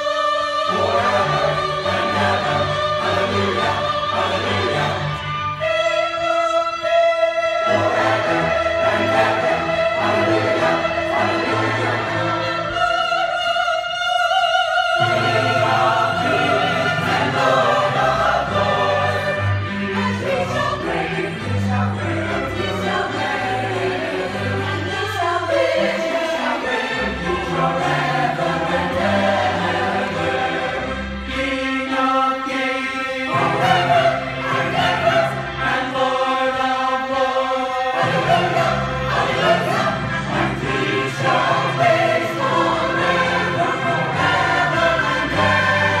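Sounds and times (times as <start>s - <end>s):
church choir singing: 0.0s - 46.0s
instrumental accompaniment: 0.0s - 46.0s.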